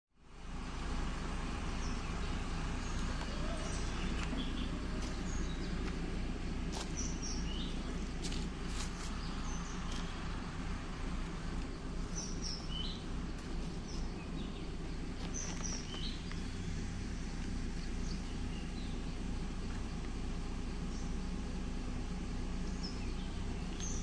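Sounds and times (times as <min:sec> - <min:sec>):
low rumble: 0:00.2 - 0:24.0
birds chirping: 0:00.3 - 0:24.0.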